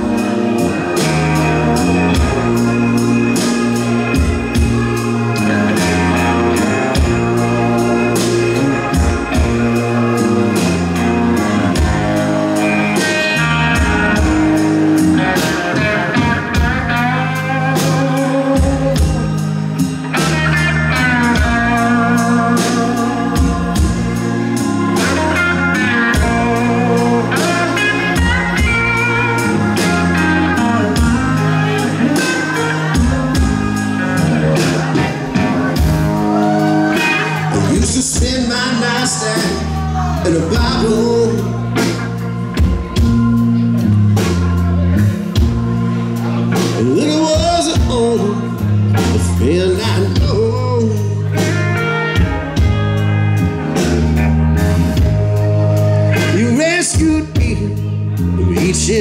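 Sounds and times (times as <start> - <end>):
bass guitar: 0.0 - 59.0
electric guitar lead lines: 0.0 - 59.0
keyboard: 0.0 - 59.0
steady drum beat: 0.0 - 59.0.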